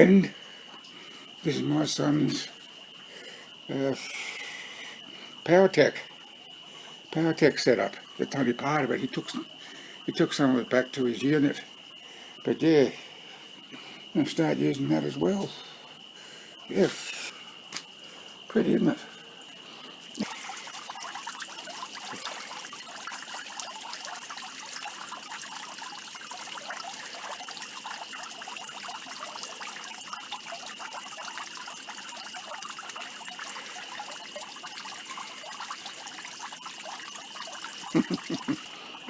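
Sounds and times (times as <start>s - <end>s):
high insect trill: 0.0s - 39.0s
trickling water: 0.0s - 39.0s.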